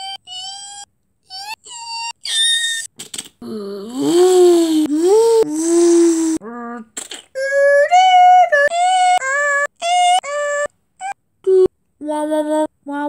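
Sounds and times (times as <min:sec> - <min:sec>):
high-pitched wordless singing: 0:00.0 - 0:02.9, 0:03.5 - 0:13.0.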